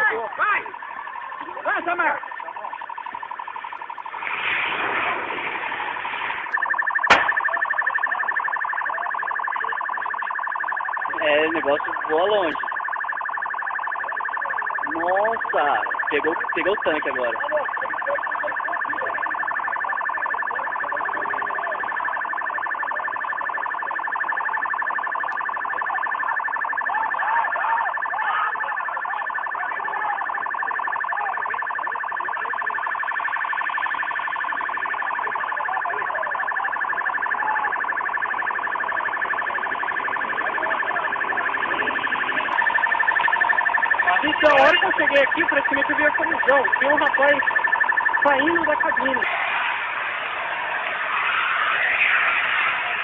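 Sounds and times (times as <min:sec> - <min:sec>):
electronic alarm pulsing: 0:00.0 - 0:53.0.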